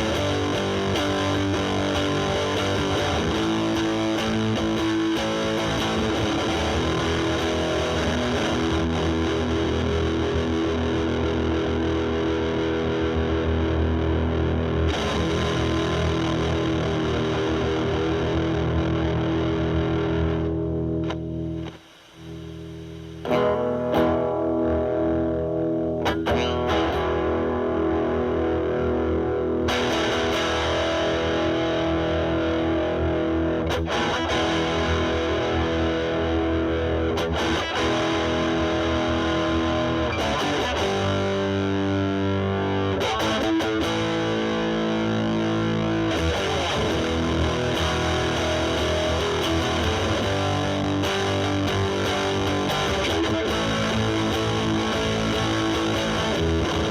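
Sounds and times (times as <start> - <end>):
distorted electric guitar chords: 0.0 - 56.9.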